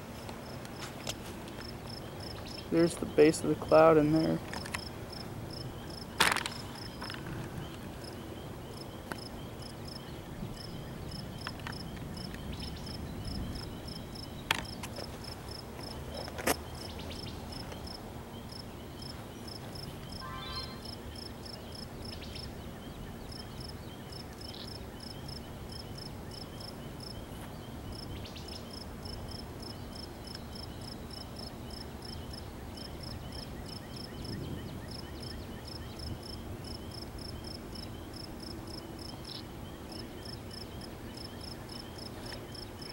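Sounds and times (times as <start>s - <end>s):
crickets chirping: 0.0s - 42.9s
rasping insect call: 0.0s - 42.9s.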